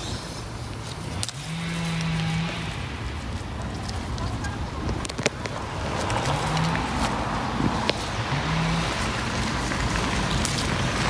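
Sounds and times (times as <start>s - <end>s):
leaves and twigs rustling: 0.0s - 11.0s.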